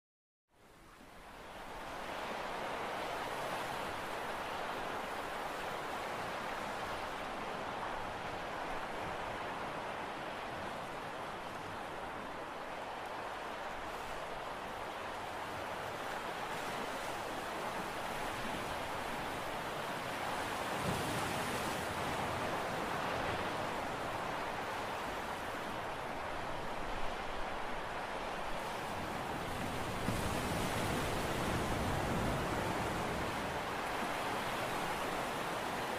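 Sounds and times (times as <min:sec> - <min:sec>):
sea: 0:00.5 - 0:35.9
wind: 0:00.5 - 0:35.9.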